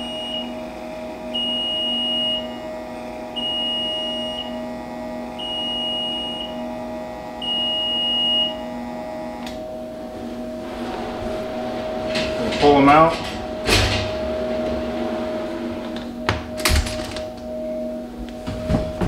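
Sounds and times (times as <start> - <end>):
incubator beeping: 0.0 - 19.0
steady hum: 0.0 - 19.0.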